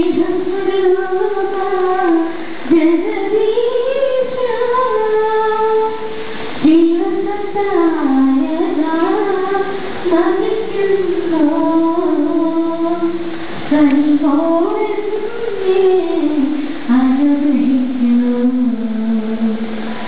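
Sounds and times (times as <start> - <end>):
woman singing into a microphone: 0.0 - 20.0.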